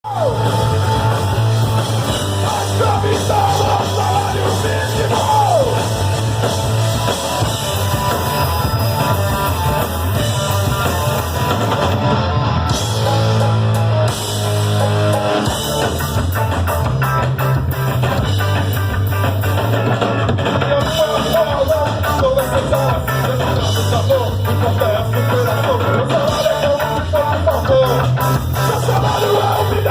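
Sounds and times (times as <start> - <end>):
drum kit: 0.0 - 29.9
electric guitar: 0.0 - 29.9.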